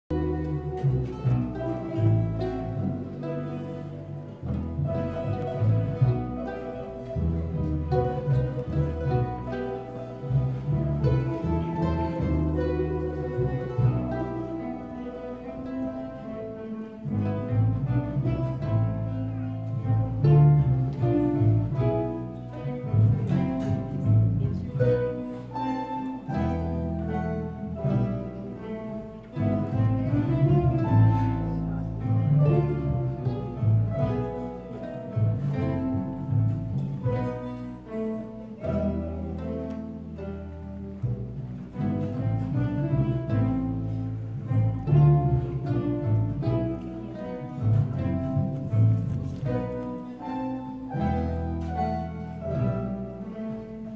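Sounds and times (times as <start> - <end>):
double bass notes: 0.0 - 53.9
mandolin orchestra playing: 0.0 - 53.9.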